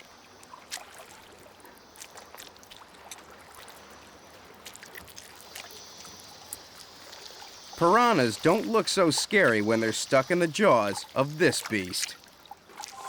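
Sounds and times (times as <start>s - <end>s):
water lapping and trickling: 0.0s - 13.0s.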